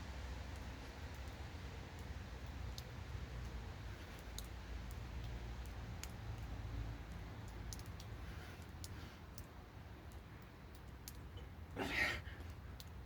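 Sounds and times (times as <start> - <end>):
raindrops dripping on hard surface: 0.0 - 13.0.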